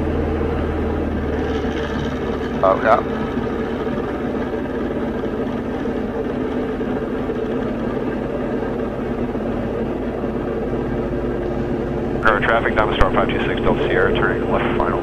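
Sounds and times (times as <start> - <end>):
aircraft engine and propeller droning: 0.0 - 15.0.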